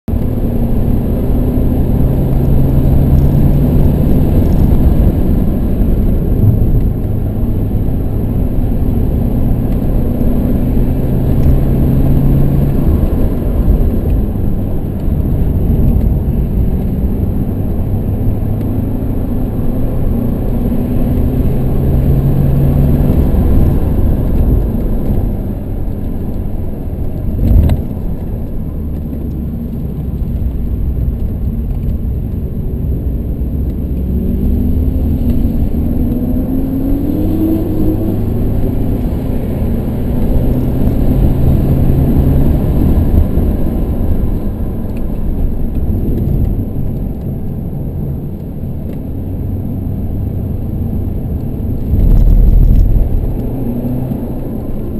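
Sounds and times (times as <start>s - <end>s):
diesel car engine from inside cabin: 0.0s - 54.9s
road and tyre noise: 0.0s - 54.9s.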